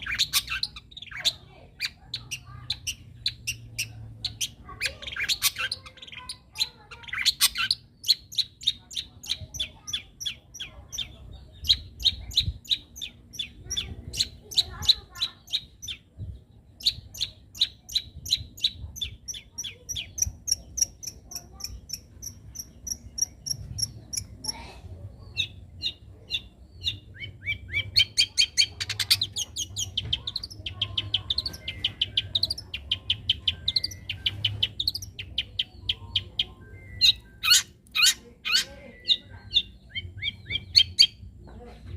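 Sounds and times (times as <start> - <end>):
bird singing high chirps: 0.0 - 41.4.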